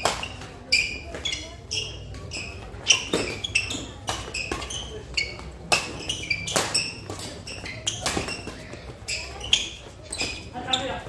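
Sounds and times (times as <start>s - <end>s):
rackets striking shuttlecock: 0.0s - 8.9s
shoes squeaking on court floor: 0.0s - 11.0s.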